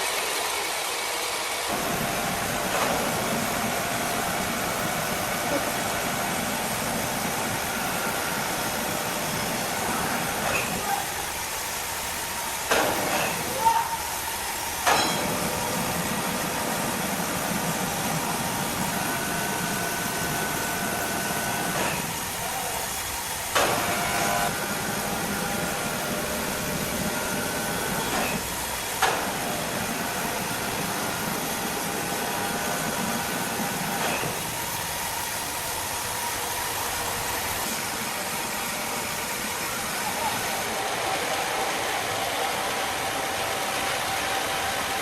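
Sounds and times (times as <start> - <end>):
machine running with a hiss: 0.0 - 45.0.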